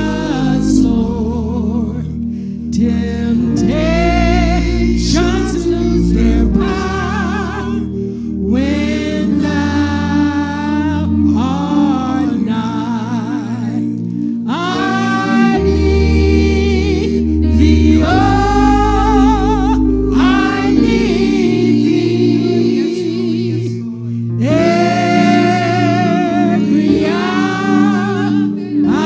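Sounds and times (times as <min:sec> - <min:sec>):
gospel singing with vibrato: 0:00.0 - 0:29.0
sustained accompaniment chords: 0:00.0 - 0:29.0.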